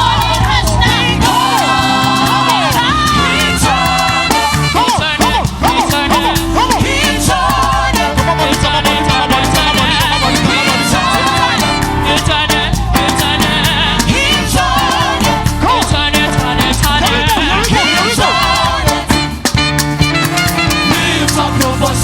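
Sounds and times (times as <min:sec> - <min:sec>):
voices singing gospel: 0:00.0 - 0:19.5, 0:20.1 - 0:22.0
band with driving percussion: 0:00.0 - 0:22.0.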